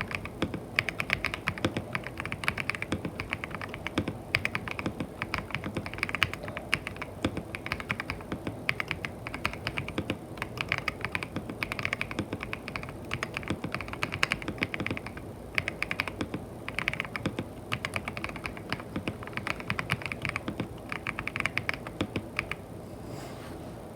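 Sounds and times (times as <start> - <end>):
mechanical keyboard typing: 0.0 - 22.6.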